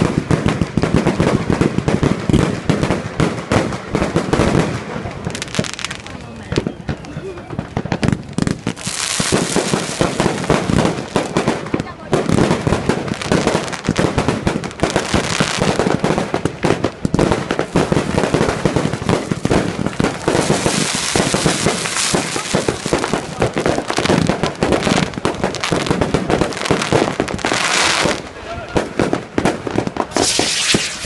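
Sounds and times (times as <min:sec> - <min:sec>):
fireworks crackling pops: 0:00.0 - 0:31.0.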